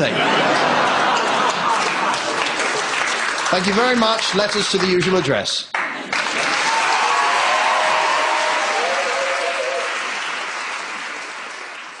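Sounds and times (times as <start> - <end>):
audience applauding: 0.4 - 12.0.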